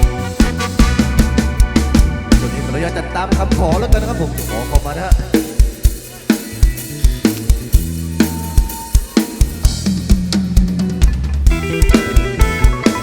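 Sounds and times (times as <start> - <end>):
instrument chords: 0.0 - 8.1, 9.6 - 13.0
bass guitar notes: 0.0 - 13.0
drum kit beat: 0.0 - 13.0.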